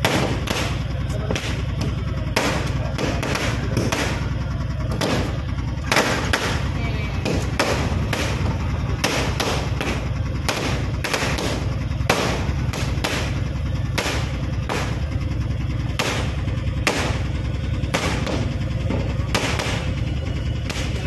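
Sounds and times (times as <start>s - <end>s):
auto-rickshaw engine running: 0.0s - 21.0s
sharp bangs: 0.0s - 21.0s.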